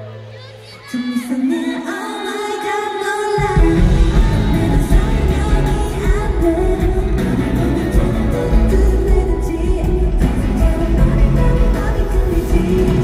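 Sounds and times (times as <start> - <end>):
pop backing track: 0.6 - 13.0
women singing: 0.9 - 13.0.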